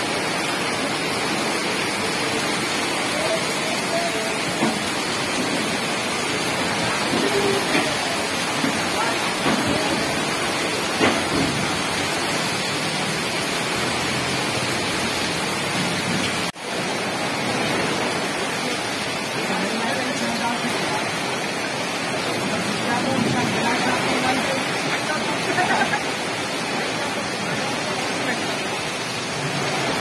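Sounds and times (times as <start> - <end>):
heavy rain on flooded street: 0.0 - 30.0.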